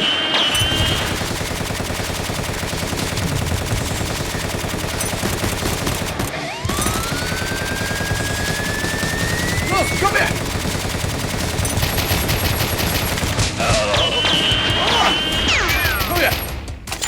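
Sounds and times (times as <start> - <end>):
rapid automatic gunfire: 0.5 - 13.6, 15.7 - 17.0.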